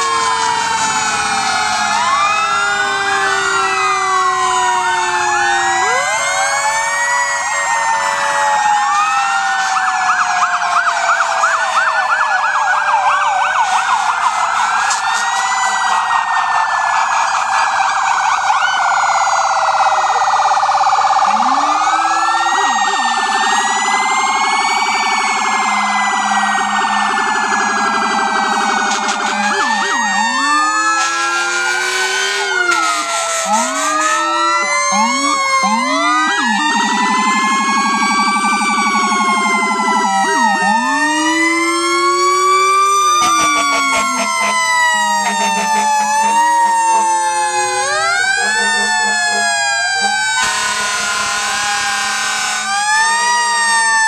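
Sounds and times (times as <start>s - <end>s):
emergency vehicle sirens wailing: 0.0s - 54.0s.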